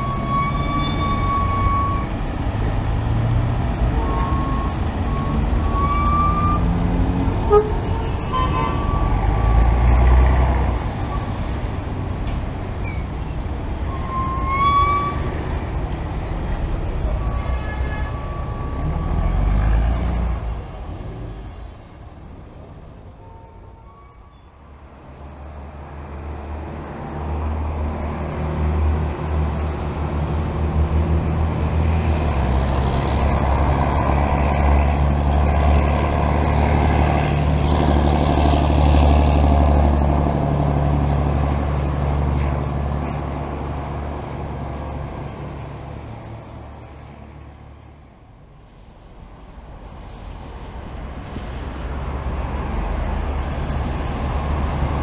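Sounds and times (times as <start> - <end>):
diesel bus engine drone: 0.0 - 55.0.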